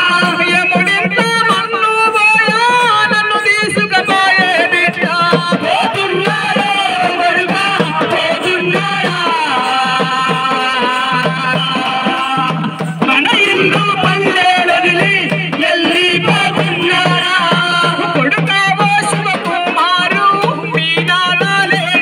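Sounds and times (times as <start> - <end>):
man singing over loudspeaker: 0.0 - 22.0.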